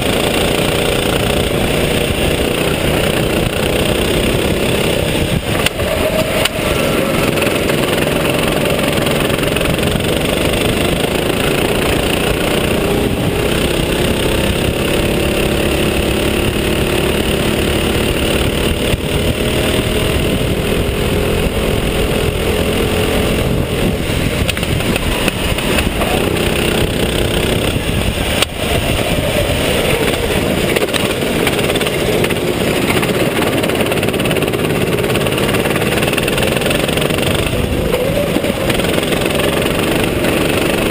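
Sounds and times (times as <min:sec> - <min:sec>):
go-kart engine revving: 0:00.0 - 0:40.9
steady rush of noise: 0:00.0 - 0:40.9.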